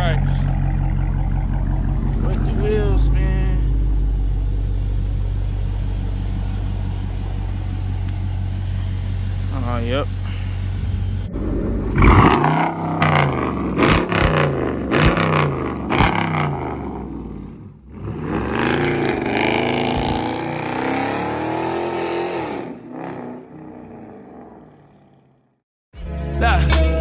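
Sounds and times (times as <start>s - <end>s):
car engine revving: 0.0s - 25.4s.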